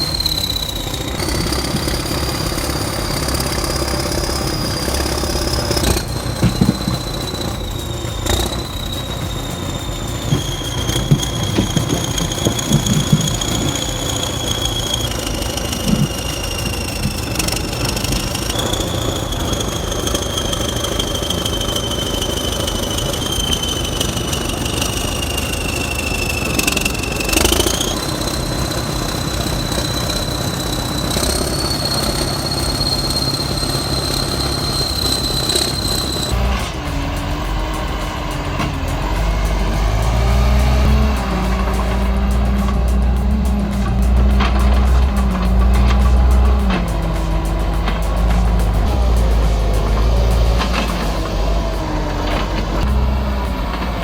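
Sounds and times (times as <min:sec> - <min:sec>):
bulldozer diesel engine running: 0:00.0 - 0:54.0
high thin whine: 0:00.0 - 0:54.0.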